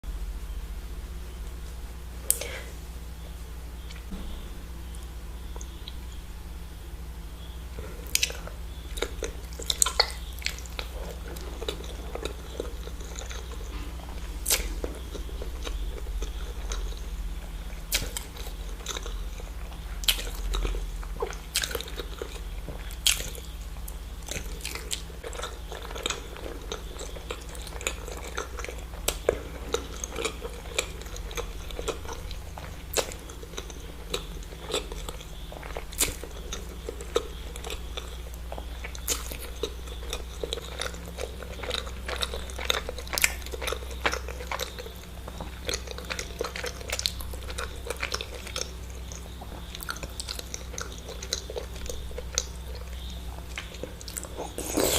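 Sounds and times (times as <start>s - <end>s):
low steady hum: 0.0s - 54.9s
chewing with wet mouth smacks: 7.4s - 54.9s.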